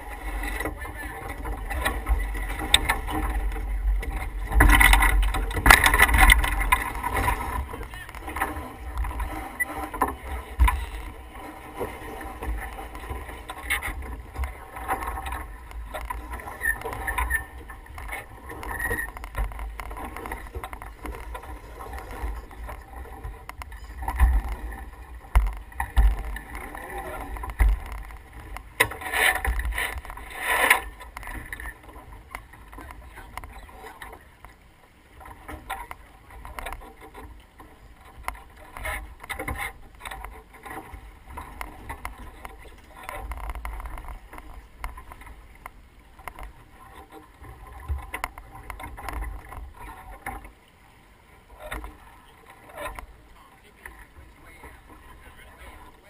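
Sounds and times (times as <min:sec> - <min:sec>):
water rushing along hull: 0:00.0 - 0:56.0.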